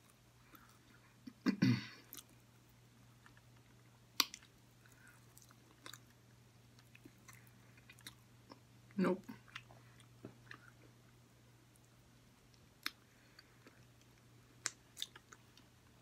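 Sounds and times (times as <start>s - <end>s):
person chewing: 0.0s - 1.4s, 2.0s - 8.7s, 9.4s - 15.9s
low electrical hum: 0.0s - 16.0s.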